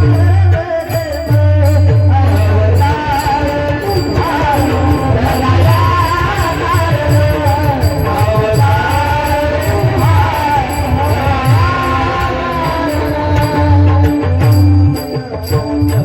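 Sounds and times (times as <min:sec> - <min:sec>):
devotional melody sung or played: 0:00.0 - 0:16.0
hand drum beat: 0:00.0 - 0:16.0.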